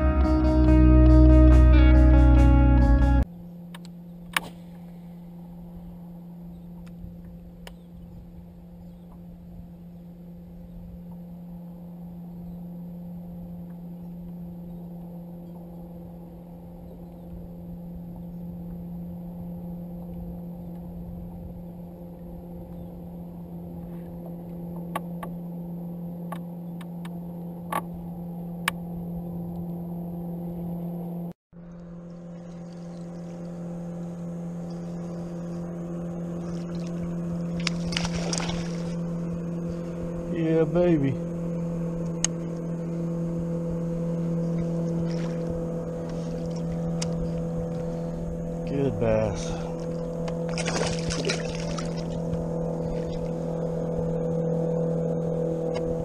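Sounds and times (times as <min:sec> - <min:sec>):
faint high whine: 0:00.0 - 0:56.0
small motor humming: 0:00.0 - 0:56.0.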